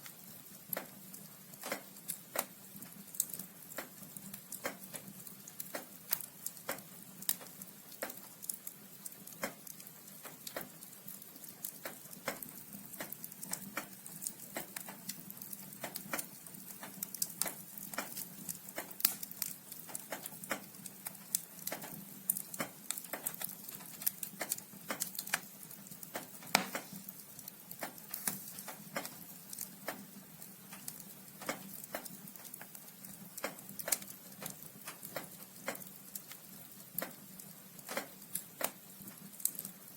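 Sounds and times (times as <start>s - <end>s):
faint fire hiss: 0.0s - 39.9s
fire crackling and popping: 0.0s - 39.9s.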